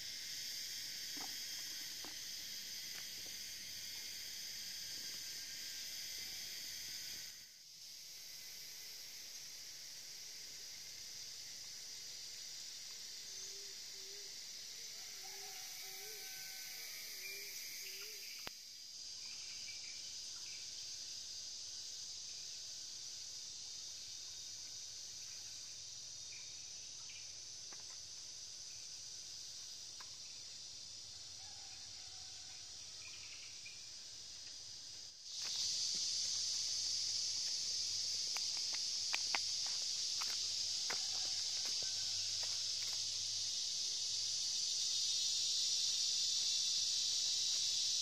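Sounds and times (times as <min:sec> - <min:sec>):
insect chorus drone: 0:00.0 - 0:48.0.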